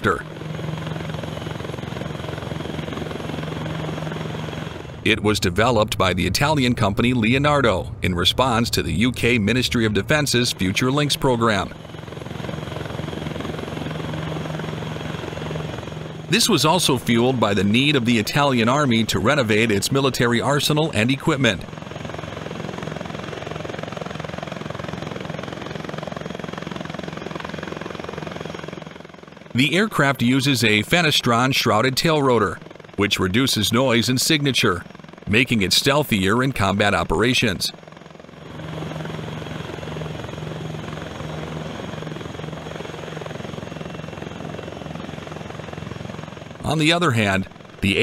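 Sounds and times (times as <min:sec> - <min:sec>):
helicopter engine hum: 0:00.0 - 0:48.0
helicopter rotor chop: 0:00.0 - 0:48.0.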